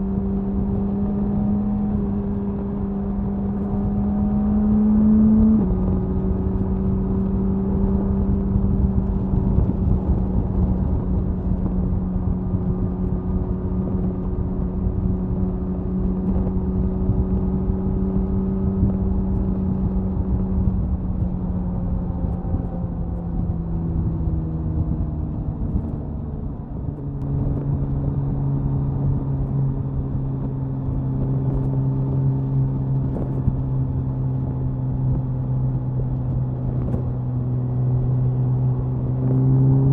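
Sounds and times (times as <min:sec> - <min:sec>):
motorcycle exhaust cruising: 0:00.0 - 0:39.9
wind noise on microphone: 0:00.0 - 0:39.9.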